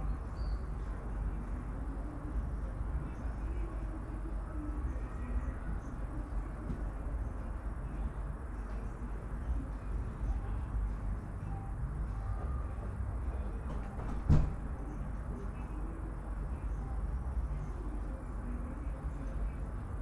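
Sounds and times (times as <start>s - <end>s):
city traffic rumble: 0.0s - 20.0s.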